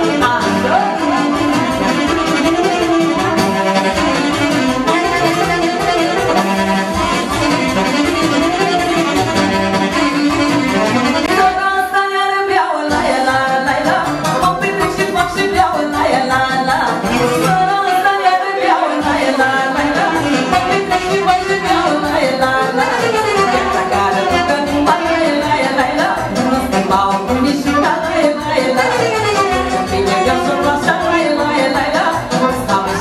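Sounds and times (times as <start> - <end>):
saxophone melody: 0.0 - 12.0, 12.9 - 33.0
live band playing folk dance music: 0.0 - 33.0.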